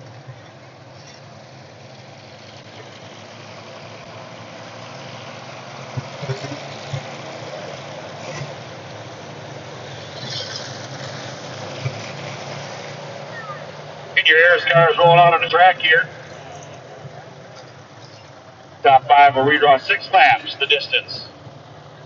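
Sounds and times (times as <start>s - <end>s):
race car engines rumbling: 0.0s - 22.0s.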